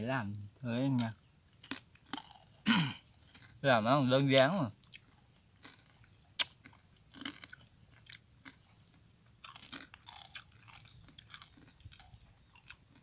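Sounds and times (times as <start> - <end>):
crunchy food being chewed: 0.1 - 13.0.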